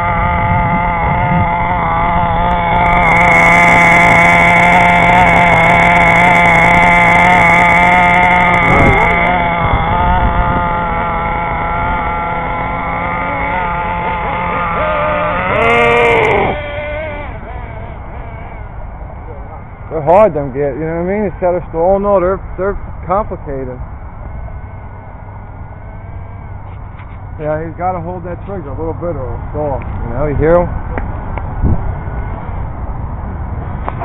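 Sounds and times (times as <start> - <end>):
model car engine buzzing: 0.0 - 33.0.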